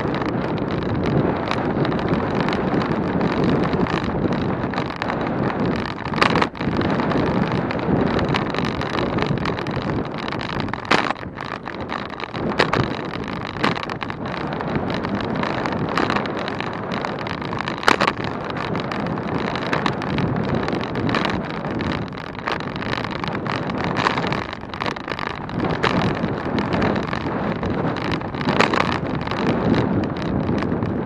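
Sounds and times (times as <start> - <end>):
bicycle rolling at speed: 0.0 - 31.0
wind on microphone: 0.0 - 31.0.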